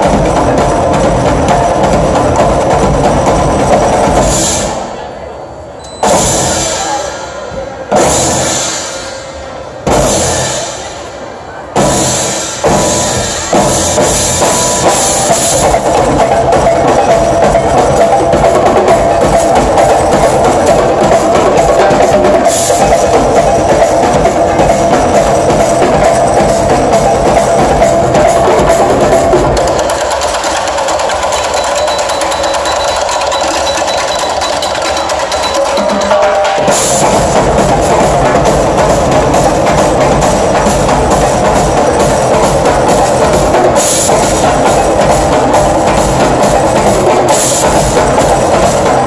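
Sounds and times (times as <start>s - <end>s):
fast drum groove: 0.0s - 4.6s, 11.8s - 49.0s.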